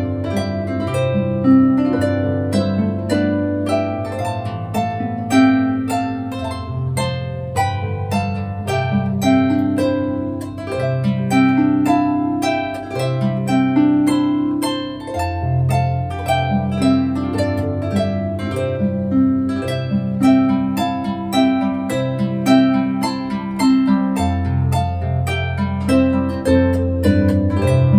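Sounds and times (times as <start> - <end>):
solo harp music: 0.0 - 27.9.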